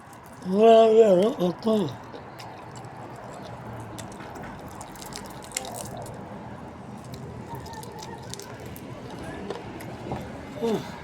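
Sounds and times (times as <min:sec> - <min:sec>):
person chewing food wetly: 0:00.0 - 0:11.0.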